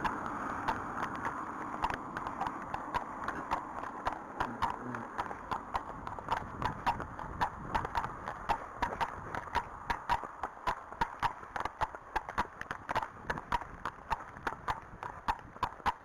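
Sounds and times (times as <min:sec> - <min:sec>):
hooves clip-clopping on tarmac: 0:00.0 - 0:16.0.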